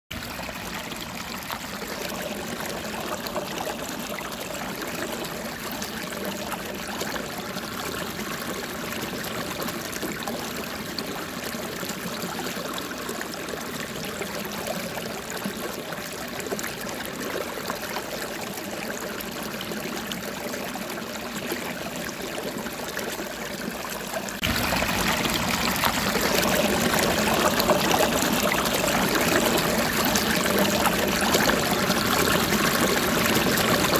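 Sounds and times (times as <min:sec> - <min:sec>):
flowing water: 0:00.1 - 0:33.9.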